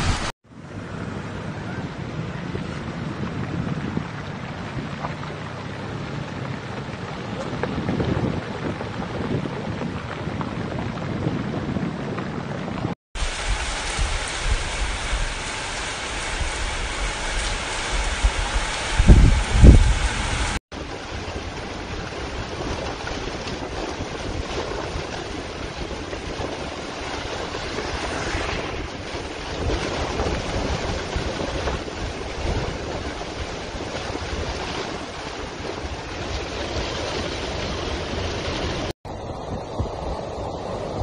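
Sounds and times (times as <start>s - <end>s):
heavy rainstorm: 0.0s - 41.0s
wind buffeting microphone: 0.0s - 41.0s.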